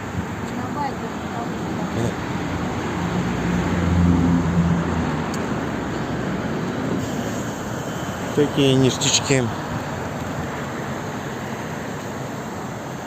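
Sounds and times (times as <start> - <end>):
road traffic noise: 0.0 - 13.0
vehicle engine hum passing: 0.0 - 13.0.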